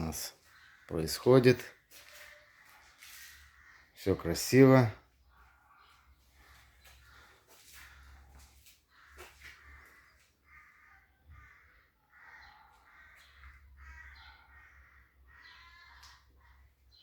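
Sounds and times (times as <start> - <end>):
faint harsh bird caws: 0.0 - 17.0.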